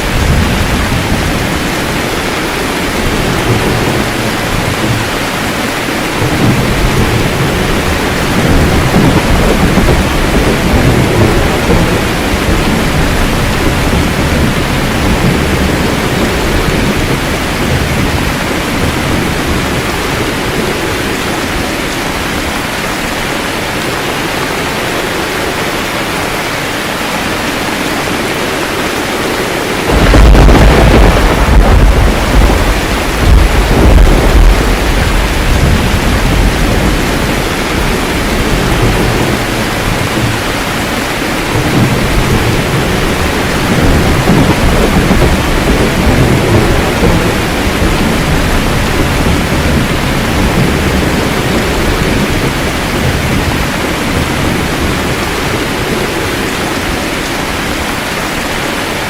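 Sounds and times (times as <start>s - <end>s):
rolling thunder: 0.0s - 26.2s, 27.7s - 57.8s
heavy rain: 0.0s - 59.0s.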